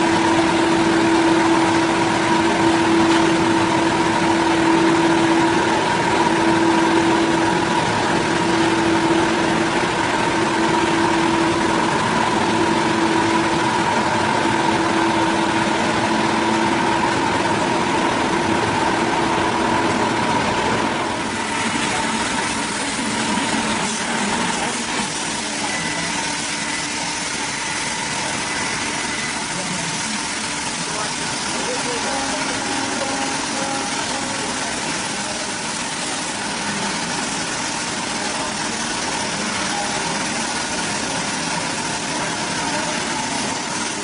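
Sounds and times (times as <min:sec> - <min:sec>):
engine running with high whine: 0:00.0 - 0:44.0.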